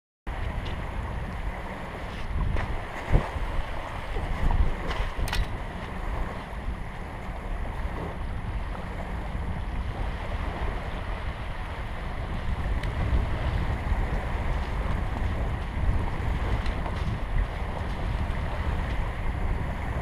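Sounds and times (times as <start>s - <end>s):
wind buffeting microphone: 0.3s - 20.0s
waves lapping on gravel shore: 0.4s - 20.0s.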